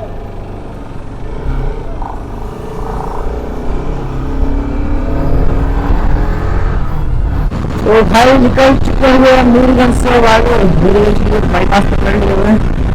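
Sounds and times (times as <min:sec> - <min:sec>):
motorcycle engine running: 0:00.0 - 0:12.9
wind rush on microphone: 0:00.9 - 0:12.9.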